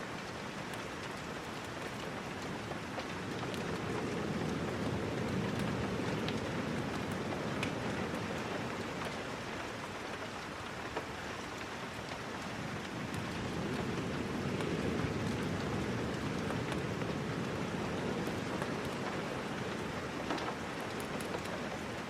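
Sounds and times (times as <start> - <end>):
steady rain hiss: 0.0 - 22.0
raindrops ticking: 0.1 - 22.0.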